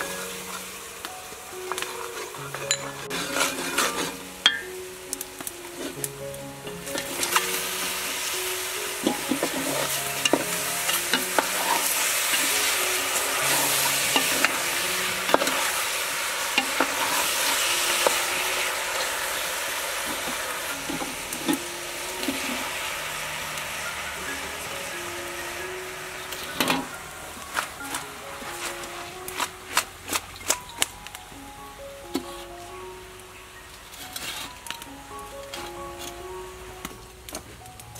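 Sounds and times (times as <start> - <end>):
food sizzling in a pot: 0.0 - 37.9.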